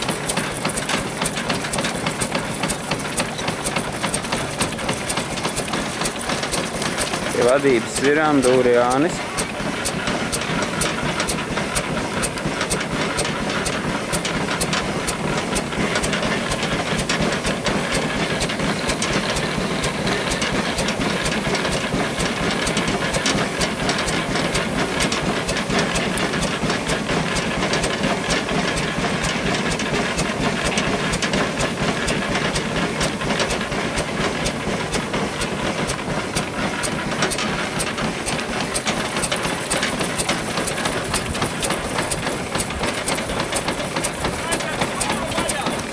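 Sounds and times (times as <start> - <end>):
machinery clattering: 0.0 - 45.9
steam hissing: 0.0 - 45.9.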